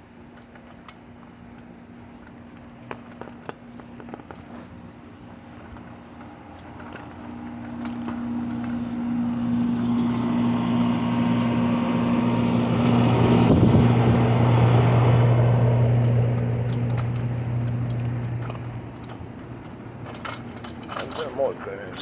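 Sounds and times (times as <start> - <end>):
air conditioner compressor hum: 0.0 - 22.0
condenser fans rushing: 0.0 - 22.0.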